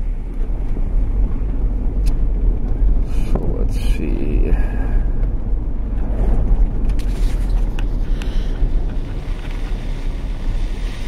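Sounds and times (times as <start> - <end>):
car engine and tyre rumble: 0.0 - 11.0
wind rushing at microphone: 0.0 - 11.0.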